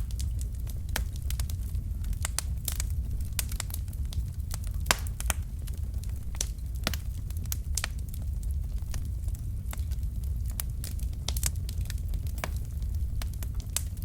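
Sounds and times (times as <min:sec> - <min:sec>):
burning logs crackling and popping: 0:00.0 - 0:14.0
fire flames rumbling: 0:00.0 - 0:14.0.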